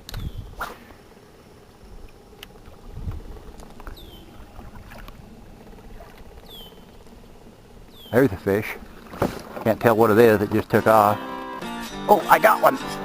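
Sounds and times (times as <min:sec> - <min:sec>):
water against hull: 0:00.0 - 0:11.6
low steady hum: 0:00.0 - 0:13.0.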